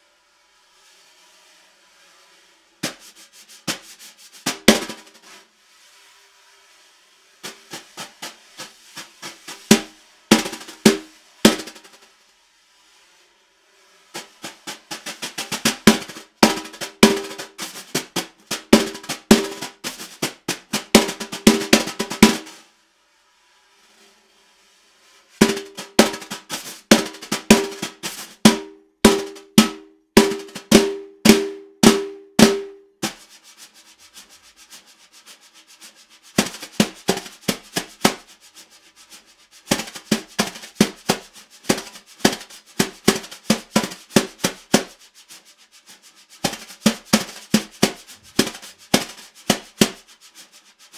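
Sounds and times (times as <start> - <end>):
snare drum played with brushes: 0.0 - 22.8, 25.0 - 50.9.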